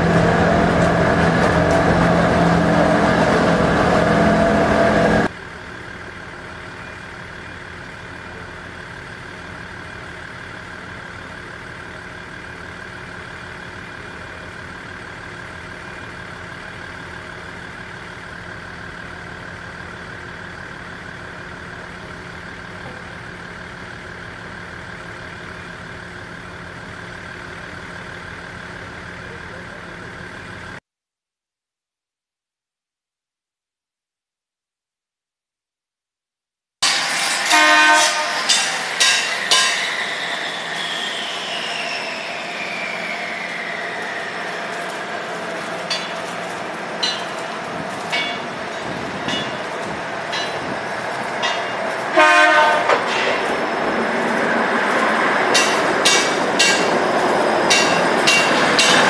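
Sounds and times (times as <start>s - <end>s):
diesel train engine idling: 0.0s - 30.8s, 36.9s - 59.0s.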